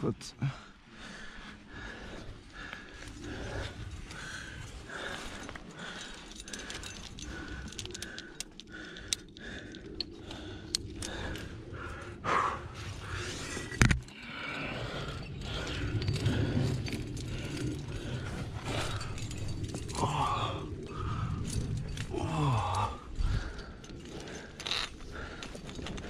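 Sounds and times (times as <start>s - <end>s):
person breathing hard: 0.4s - 26.0s
climbing gear clicks: 1.0s - 26.0s.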